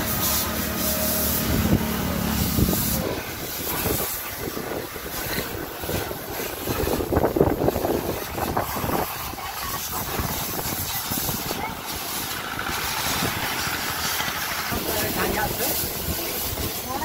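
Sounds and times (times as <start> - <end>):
water jet spraying metal: 0.0 - 17.0.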